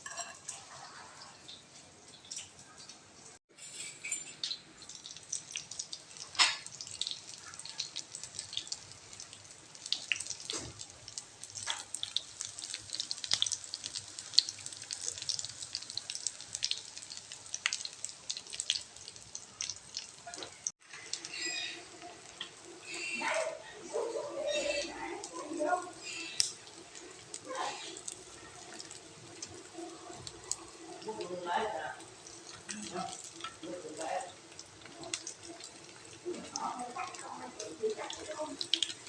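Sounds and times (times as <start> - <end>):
food frying in hot oil: 0.0 - 39.0.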